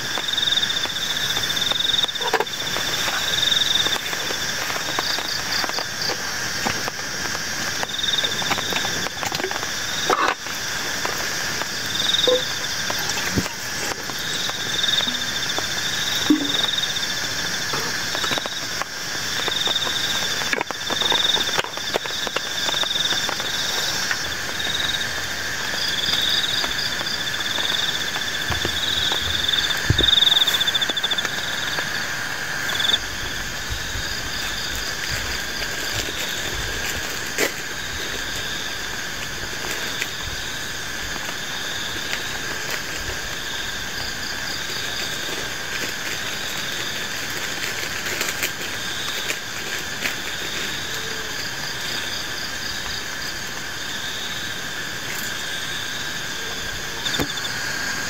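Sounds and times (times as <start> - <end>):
frogs calling: 0.0 - 58.0
insects trilling: 0.0 - 58.0.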